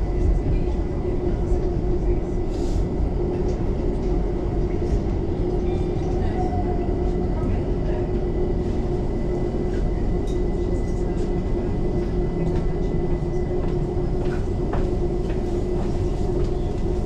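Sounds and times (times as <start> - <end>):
train interior rumble and hum: 0.0 - 17.0.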